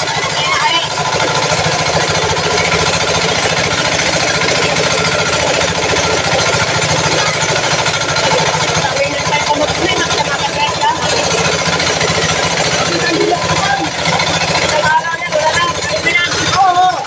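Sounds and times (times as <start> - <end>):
fiber stripping machine running: 0.0 - 17.0.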